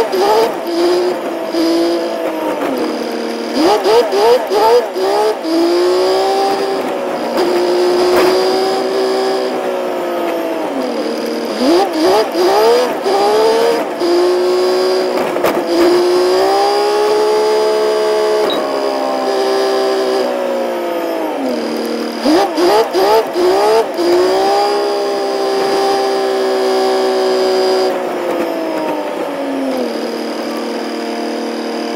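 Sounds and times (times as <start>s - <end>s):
truck engine from inside cab: 0.0s - 31.9s.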